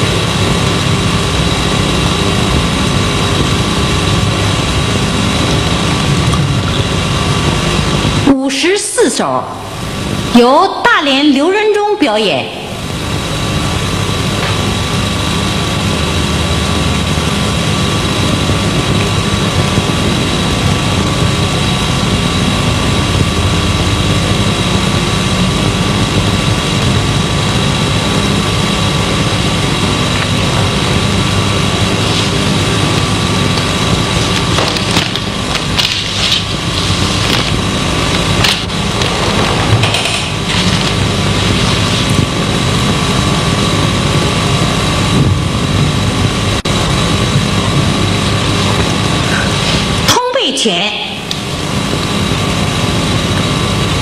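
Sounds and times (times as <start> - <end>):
tape hum and hiss: 0.0 - 54.0.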